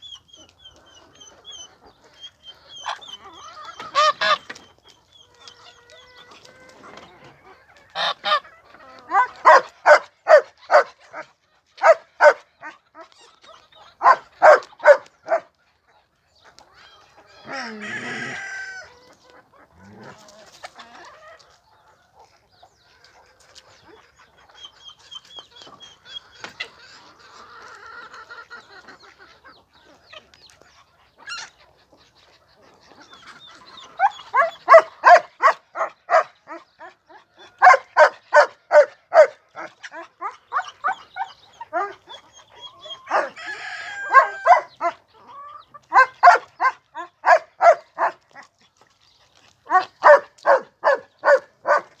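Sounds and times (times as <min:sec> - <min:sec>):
chickens calling: 0:00.0 - 0:52.0.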